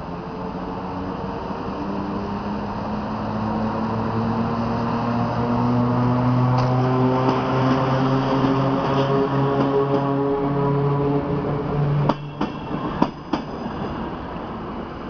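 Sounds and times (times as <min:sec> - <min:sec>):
electric locomotive hum: 0:00.0 - 0:15.0
train rumble: 0:00.0 - 0:15.0.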